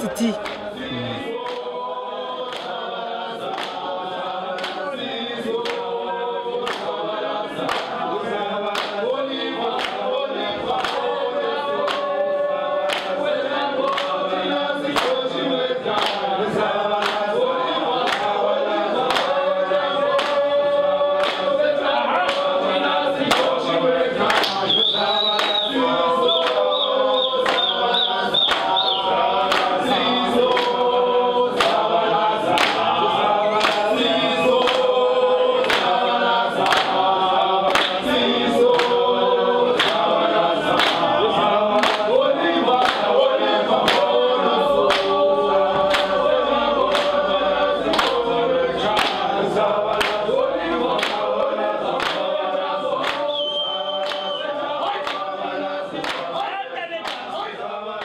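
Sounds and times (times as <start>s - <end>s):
group singing in harmony: 0.0s - 58.0s.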